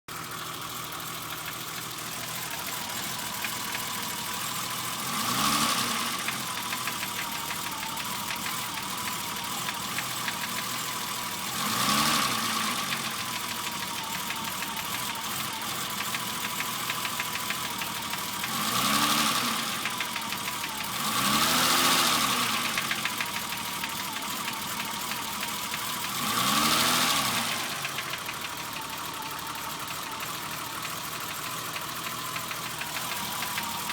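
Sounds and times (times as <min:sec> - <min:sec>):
knocking engine revving: 0:00.1 - 0:33.9.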